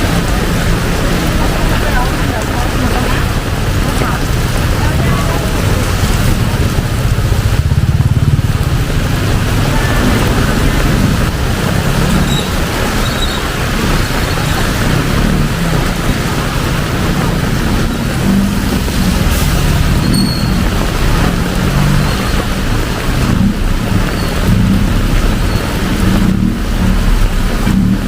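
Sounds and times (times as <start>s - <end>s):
heavy rain on street: 0.0s - 28.0s
passing traffic: 0.0s - 28.0s.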